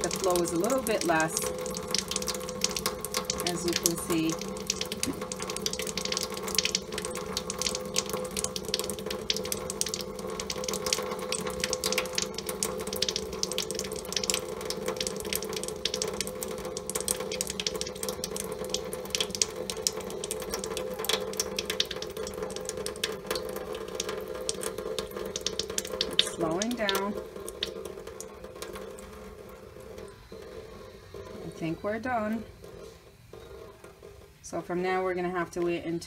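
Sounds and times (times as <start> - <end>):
water stream splashing into sink: 0.0 - 34.3.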